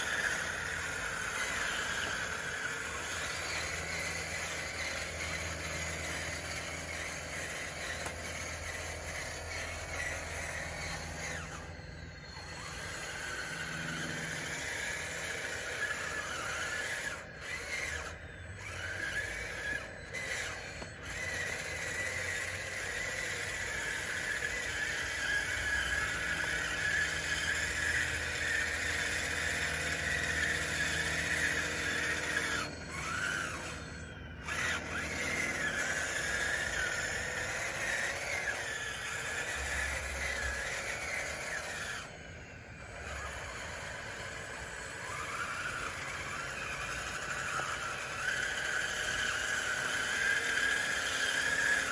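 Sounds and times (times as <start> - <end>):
electric motors whining: 0.0 - 51.9.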